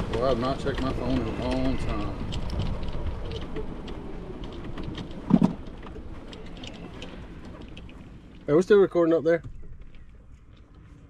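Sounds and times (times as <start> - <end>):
golf cart rolling: 0.0 - 11.0.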